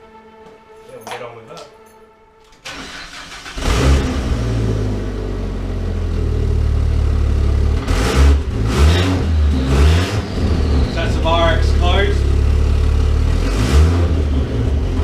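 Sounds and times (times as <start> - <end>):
car engine cranking and starting: 2.5 - 15.0
car engine idling and revving: 2.7 - 15.0.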